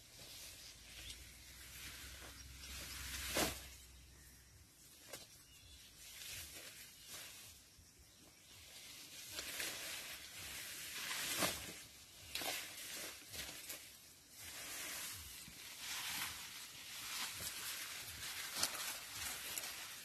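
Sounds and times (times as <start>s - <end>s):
corn leaves rustling and crackling: 0.0s - 4.3s, 4.9s - 20.0s.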